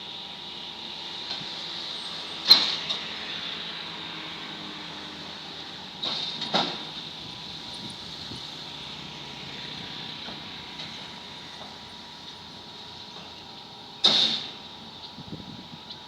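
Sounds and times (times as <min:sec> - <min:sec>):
excavator running: 0:00.0 - 0:16.0.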